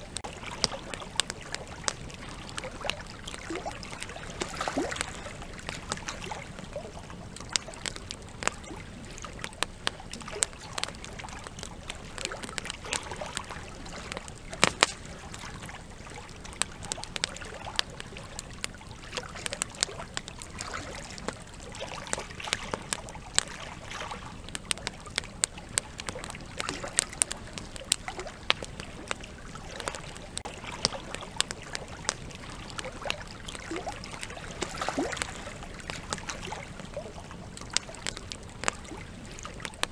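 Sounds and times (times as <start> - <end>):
campfire crackling and popping: 0.0 - 39.9
river trickling: 0.0 - 39.9.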